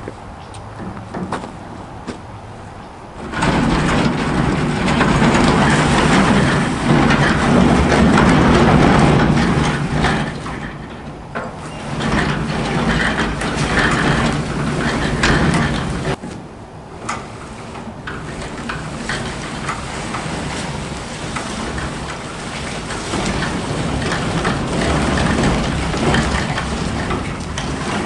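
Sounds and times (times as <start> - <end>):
wheels rolling rumble: 0.0 - 28.0
wooden frame rattling: 0.8 - 2.2, 3.2 - 28.0.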